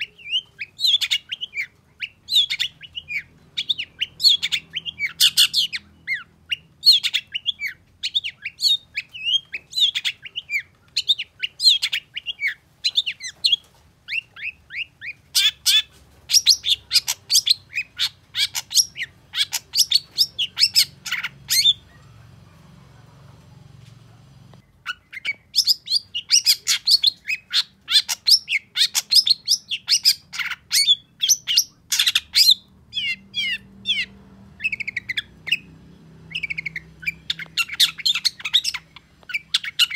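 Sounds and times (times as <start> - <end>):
bird chattering song: 0.0 - 22.5, 24.6 - 39.9.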